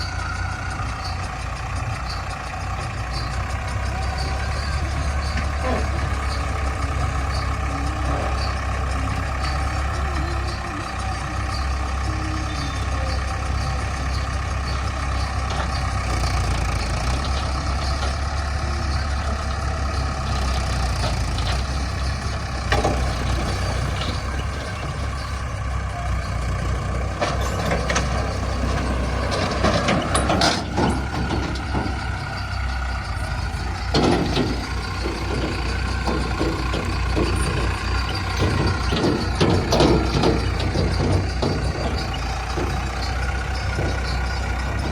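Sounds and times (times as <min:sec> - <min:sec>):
diesel machinery engines humming: 0:00.0 - 0:44.9
sharp metal clanks: 0:02.0 - 0:44.9.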